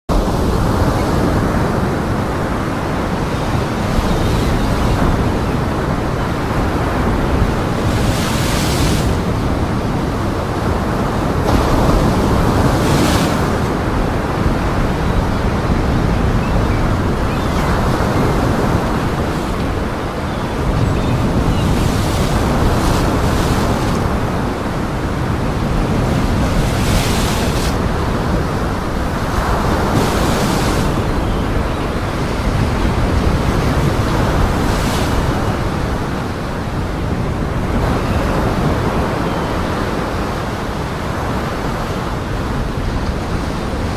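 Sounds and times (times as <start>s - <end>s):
heavy surf breaking on shore: 0.1s - 43.9s
strong wind: 0.1s - 43.9s.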